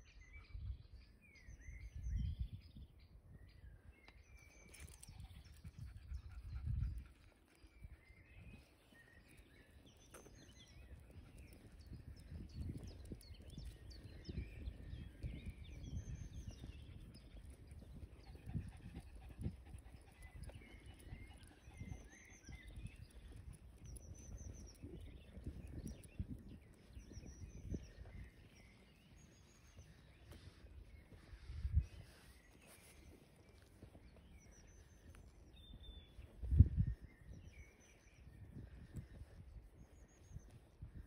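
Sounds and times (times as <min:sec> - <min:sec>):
birds chirping: 0:04.1 - 0:40.8.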